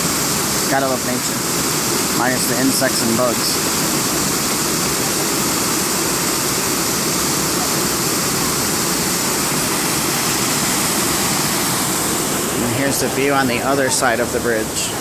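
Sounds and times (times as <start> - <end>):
waterfall rushing over rock: 0.0 - 15.0.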